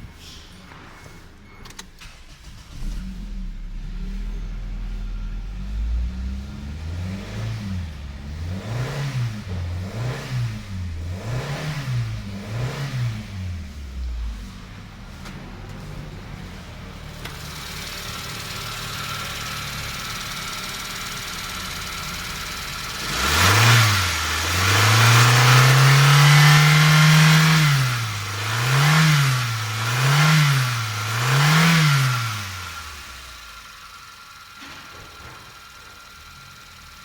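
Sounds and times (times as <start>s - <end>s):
car engine idling and revving: 0.0s - 37.0s.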